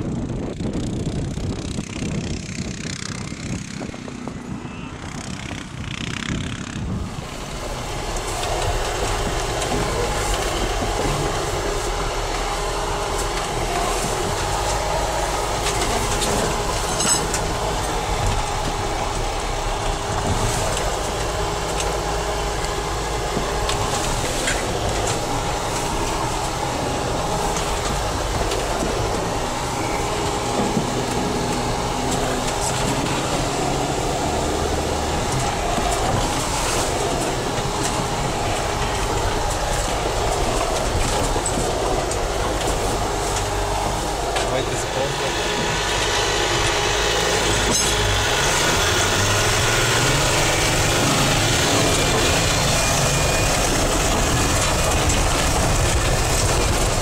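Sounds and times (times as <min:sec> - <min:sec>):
vehicle engine running: 0:00.0 - 0:57.0
knocks and rattles: 0:05.1 - 0:57.0.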